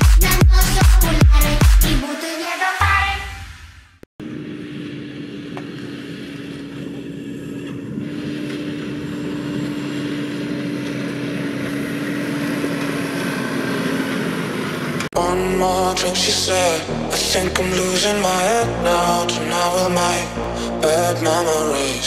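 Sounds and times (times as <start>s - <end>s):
tractor diesel engine running: 4.2s - 22.0s.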